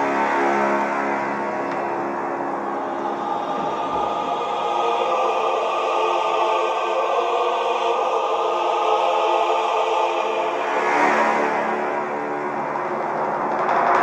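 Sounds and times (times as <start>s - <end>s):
choral music with held notes: 0.0s - 14.0s.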